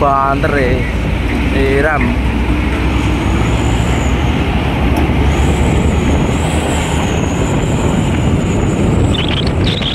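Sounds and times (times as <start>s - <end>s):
diesel truck engines rumbling: 0.0s - 9.9s
road noise: 0.0s - 9.9s.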